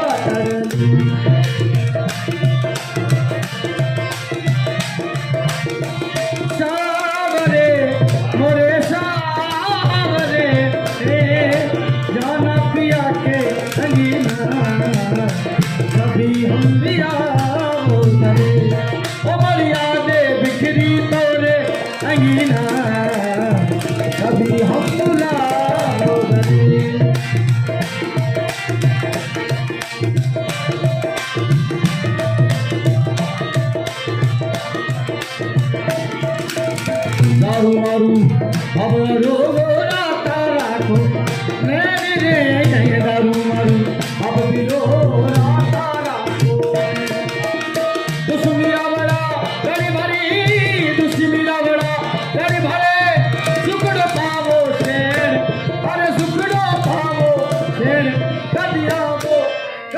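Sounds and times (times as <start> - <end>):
hand drum rhythm: 0.0 - 59.4.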